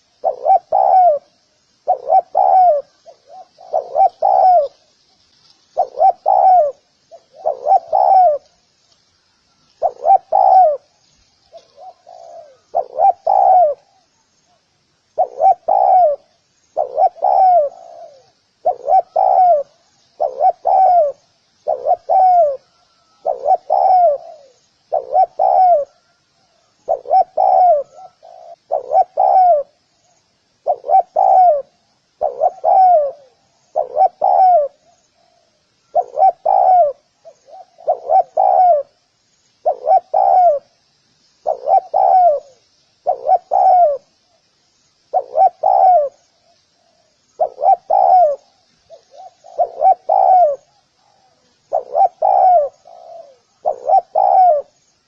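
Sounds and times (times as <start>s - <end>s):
dove cooing: 0.0s - 5.0s, 5.7s - 8.6s, 9.7s - 29.9s, 30.6s - 39.0s, 39.6s - 40.8s, 41.4s - 44.4s, 45.1s - 54.9s
small birds twittering: 0.0s - 55.0s.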